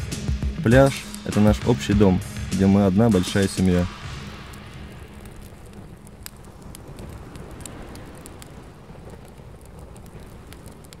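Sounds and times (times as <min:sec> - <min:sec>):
campfire crackling: 0:00.0 - 0:11.0
sharp fire pops: 0:00.0 - 0:11.0
soft fire hiss: 0:00.0 - 0:11.0.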